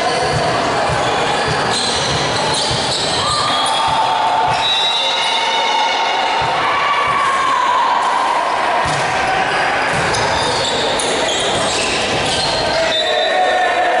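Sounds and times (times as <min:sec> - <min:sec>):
players calling and shouting: 0:00.0 - 0:14.0.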